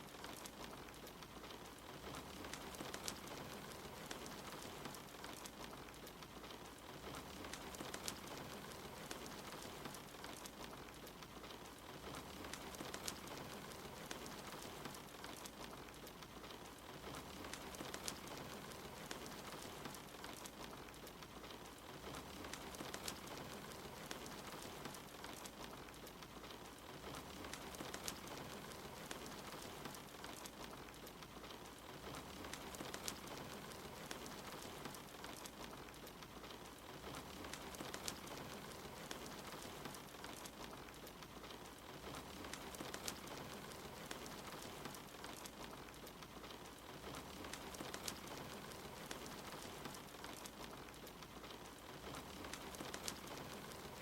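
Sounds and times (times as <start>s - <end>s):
fire crackling and popping: 0.0s - 54.0s
steady rain patter: 0.0s - 54.0s.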